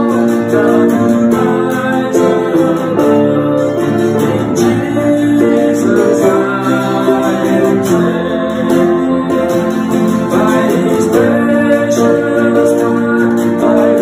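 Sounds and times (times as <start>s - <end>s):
acoustic guitar: 0.0s - 14.0s
man singing: 0.0s - 14.0s
piano: 0.0s - 14.0s.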